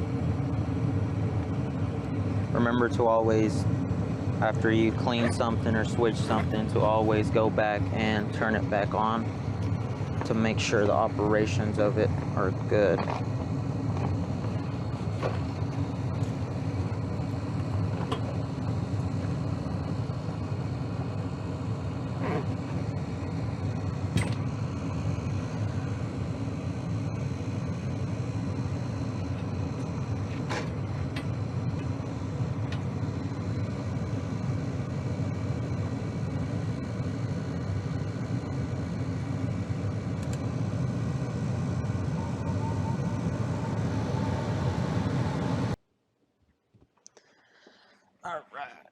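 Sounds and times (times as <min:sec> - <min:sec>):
gas furnace running: 0:00.0 - 0:45.8.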